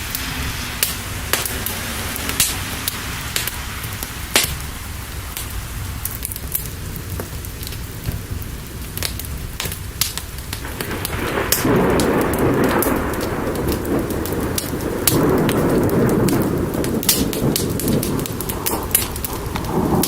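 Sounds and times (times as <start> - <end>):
fire crackling and popping: 0.0 - 20.0
steady rain: 0.0 - 20.0
thunder rumbling: 0.0 - 20.0.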